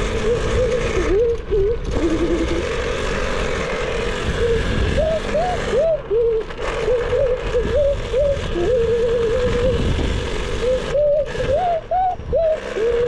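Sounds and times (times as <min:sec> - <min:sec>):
dirt bike engine throttle blips: 0:00.0 - 0:13.0
wind and road noise: 0:00.0 - 0:13.0.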